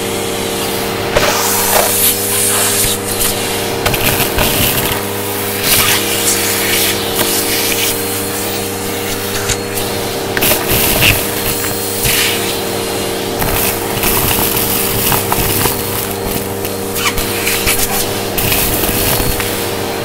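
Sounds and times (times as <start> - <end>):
vacuum cleaner motor humming: 0.0 - 20.0.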